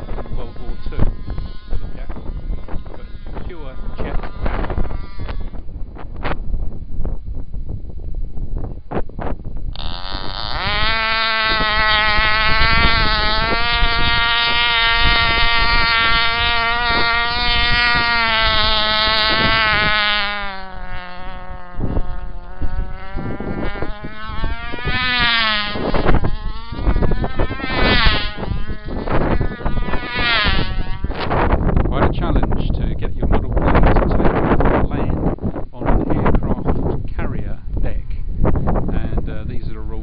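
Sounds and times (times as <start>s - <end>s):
model aircraft engine buzzing whine: 0.0s - 40.0s.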